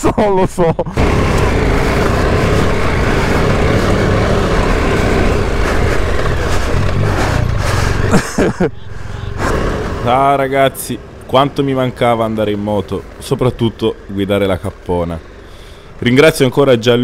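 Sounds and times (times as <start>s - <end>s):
motorcycle engine running: 1.0s - 15.8s.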